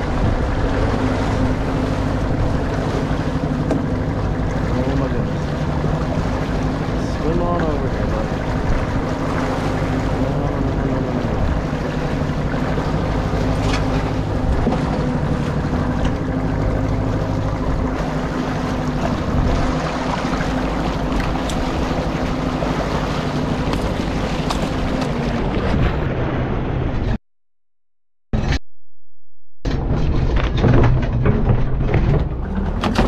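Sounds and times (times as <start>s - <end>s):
boat engine humming: 0.0s - 27.2s, 29.8s - 33.0s
water rushing along hull: 0.0s - 27.2s, 29.8s - 33.0s
wind buffeting microphone: 0.0s - 27.2s.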